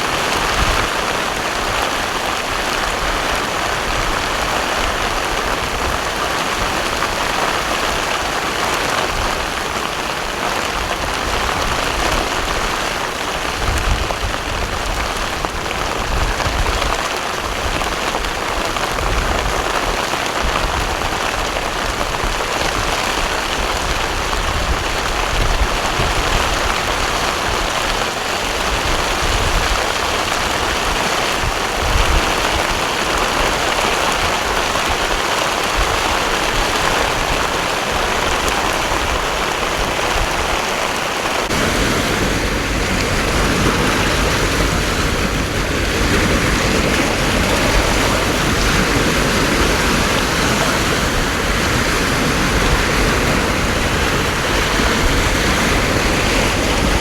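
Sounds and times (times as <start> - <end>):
deeper rush of rain: 0.0 - 57.0
torrential rain hissing: 0.0 - 57.0.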